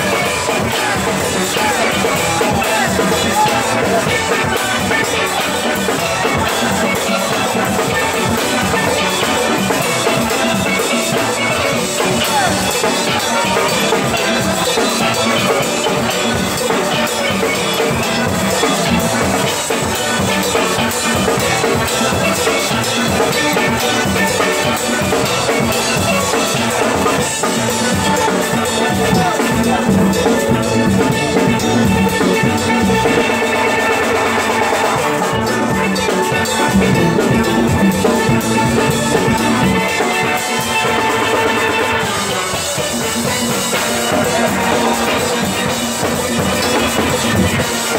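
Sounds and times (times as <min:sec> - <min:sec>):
drum kit: 0:00.0 - 0:47.9
steel band playing: 0:00.0 - 0:47.9.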